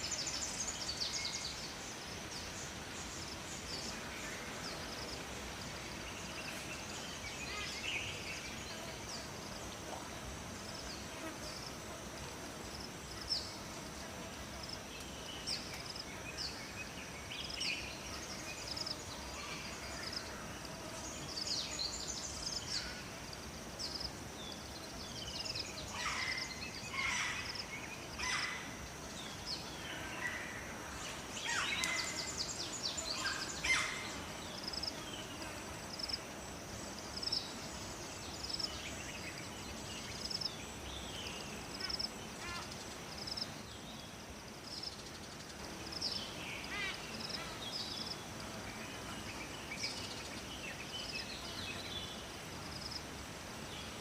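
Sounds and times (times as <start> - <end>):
insect drone: 0.0 - 54.0
low background hiss: 0.0 - 54.0.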